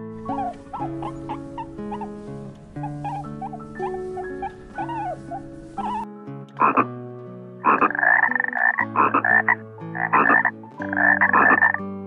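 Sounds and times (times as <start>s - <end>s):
frog croaking: 0.0s - 6.9s, 7.6s - 11.8s.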